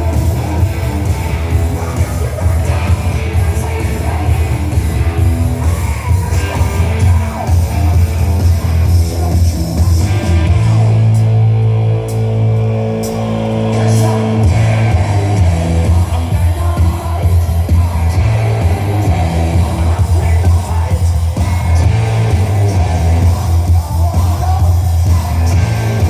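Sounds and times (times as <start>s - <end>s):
hard rock through car speakers: 0.0s - 26.0s.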